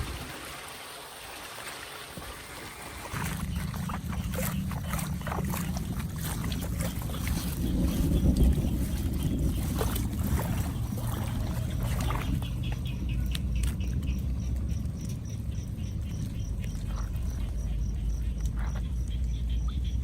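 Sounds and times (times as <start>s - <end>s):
water flowing into drain: 0.0s - 19.1s.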